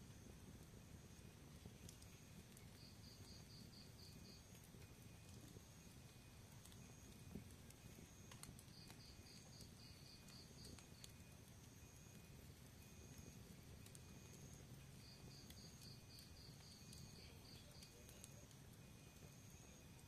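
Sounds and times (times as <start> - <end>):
fire crackling and popping: 0.0 - 20.0
faint high chirps: 1.8 - 20.0.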